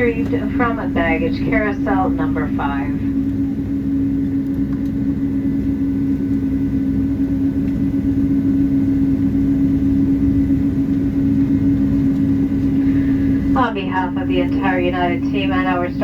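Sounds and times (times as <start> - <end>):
aircraft cabin rumble: 0.0 - 16.0
constant low hum: 0.0 - 16.0.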